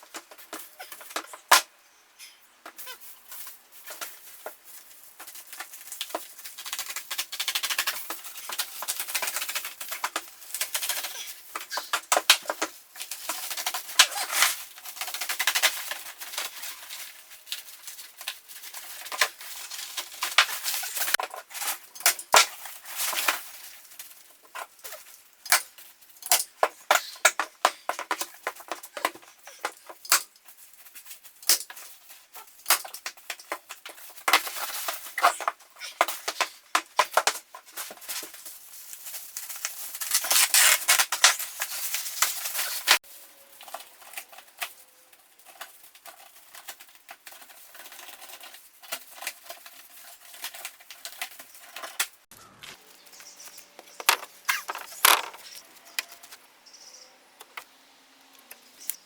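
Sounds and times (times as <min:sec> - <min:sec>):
scraping and rustling: 0:02.2 - 0:56.5.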